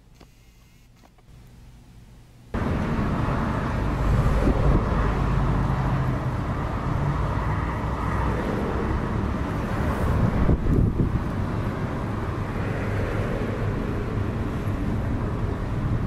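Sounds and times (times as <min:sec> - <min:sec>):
jet engines rumbling: 0:02.6 - 0:16.0.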